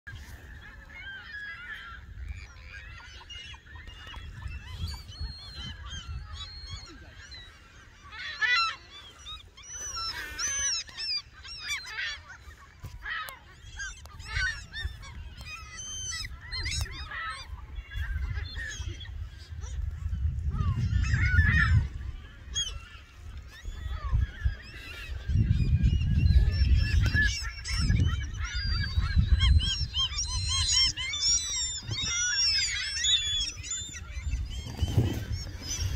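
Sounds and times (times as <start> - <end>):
wind rumble on microphone: 0.1 - 9.1, 12.4 - 35.9
gulls calling: 0.1 - 35.9.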